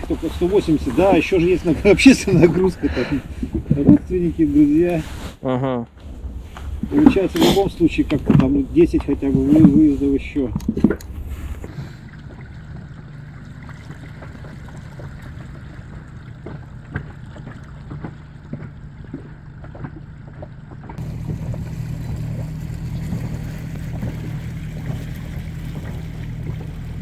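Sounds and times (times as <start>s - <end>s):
boat motor droning: 0.0s - 5.0s, 6.2s - 27.0s.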